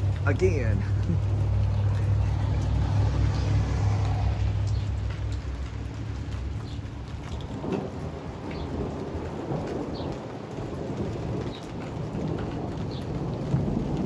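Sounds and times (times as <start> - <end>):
rain falling: 0.0 - 14.0
rolling thunder: 1.2 - 14.0.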